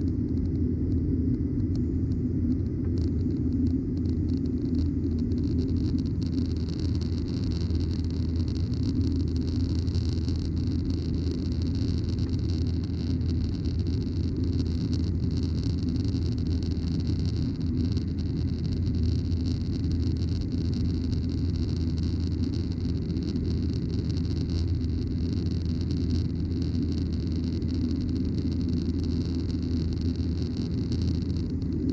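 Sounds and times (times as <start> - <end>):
airplane cabin engine drone: 0.0 - 31.9.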